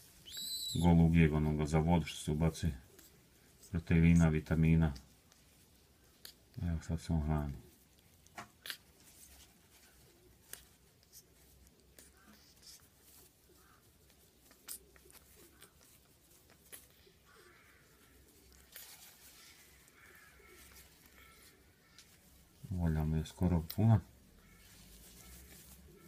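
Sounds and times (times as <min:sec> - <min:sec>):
soft rustles: 0:00.0 - 0:26.0.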